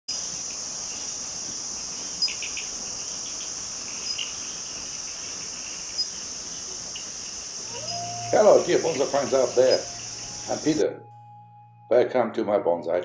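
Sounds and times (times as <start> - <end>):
high-pitched insect chorus: 0.1 - 10.8.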